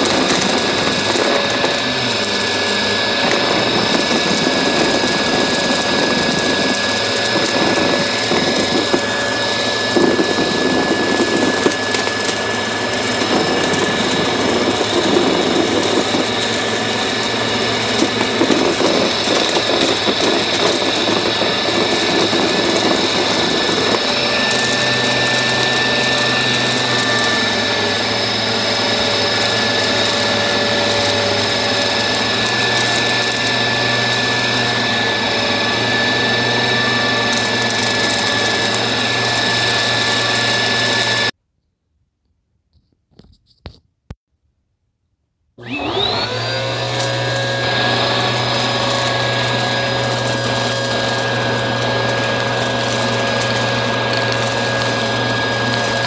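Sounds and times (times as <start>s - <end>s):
debris crackling through vacuum: 0.0s - 41.3s, 45.9s - 56.0s
vacuum cleaner motor whine: 0.0s - 41.4s, 45.6s - 56.0s.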